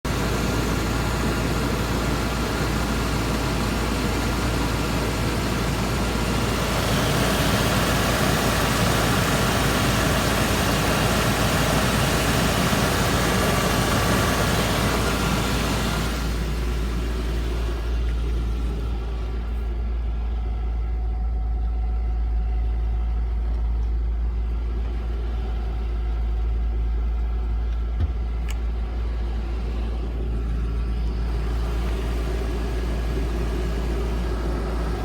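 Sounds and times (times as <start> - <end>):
car engine idling: 0.0 - 35.0
power steering pump whine: 0.1 - 35.0.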